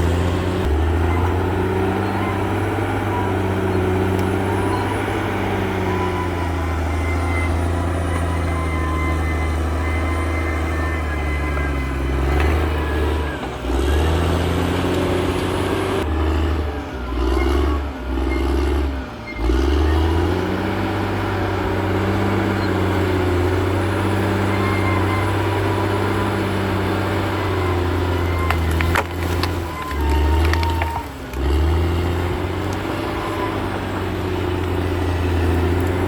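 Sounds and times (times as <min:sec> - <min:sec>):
bulldozer diesel engine: 0:00.0 - 0:36.0.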